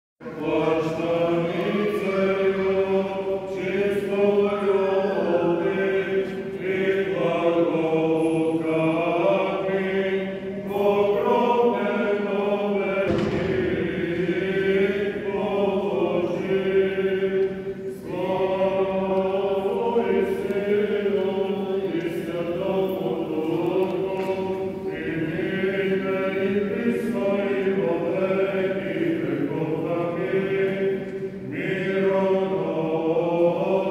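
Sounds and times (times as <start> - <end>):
men chanting a hymn: 0.2 - 33.9.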